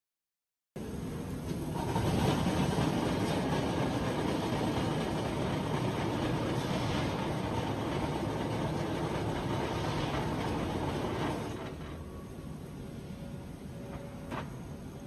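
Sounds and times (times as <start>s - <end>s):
low machine noise: 0.8s - 15.0s.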